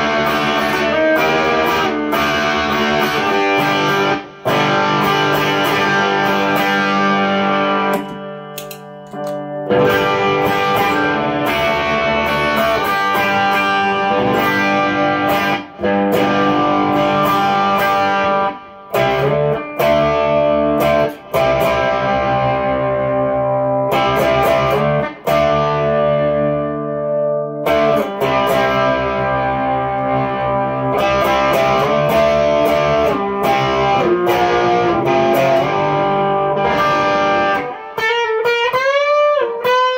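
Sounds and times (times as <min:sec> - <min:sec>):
overdriven electric guitar chords: 0:00.0 - 0:39.9.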